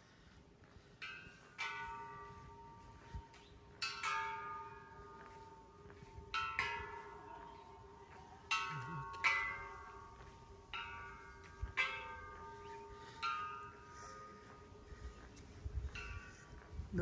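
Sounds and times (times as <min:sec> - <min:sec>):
metal chimes ringing: 0:01.0 - 0:17.0.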